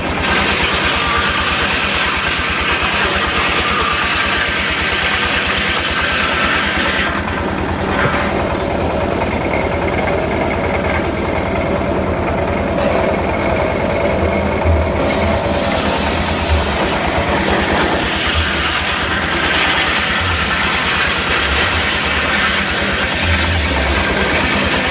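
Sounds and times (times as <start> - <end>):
sawmill engine running: 0.0 - 24.9.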